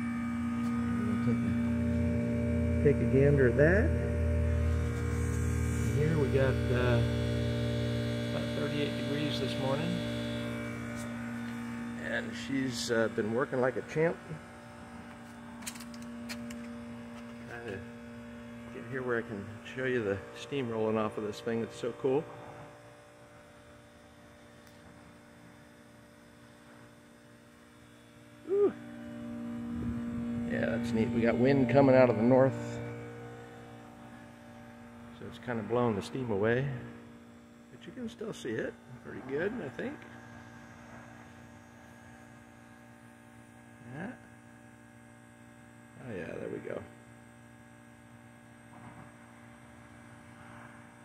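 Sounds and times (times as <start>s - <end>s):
heat pump humming: 0.0s - 51.0s.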